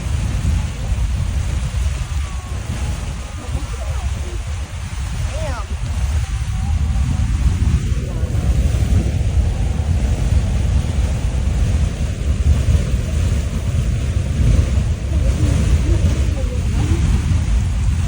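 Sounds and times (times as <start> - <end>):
geyser erupting with steady roar: 0.0 - 18.0
wind buffeting microphone: 0.0 - 18.0.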